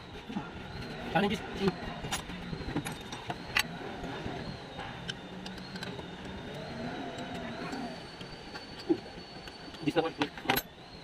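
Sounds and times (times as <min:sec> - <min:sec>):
mechanical hum with high whine: 0:00.0 - 0:11.0
wavering tone: 0:00.0 - 0:11.0.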